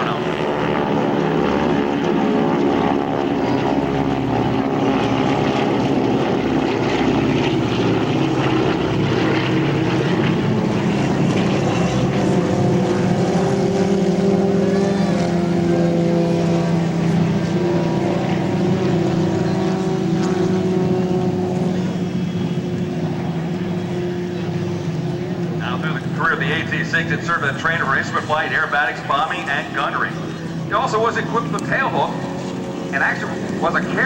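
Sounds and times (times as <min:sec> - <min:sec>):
propeller aircraft engines droning: 0:00.0 - 0:34.0.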